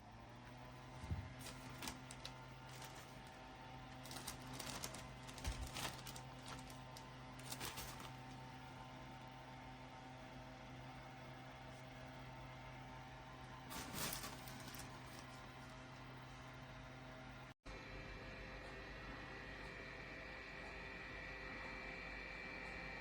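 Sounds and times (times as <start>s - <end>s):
mini fan motor humming: 0.0s - 23.0s.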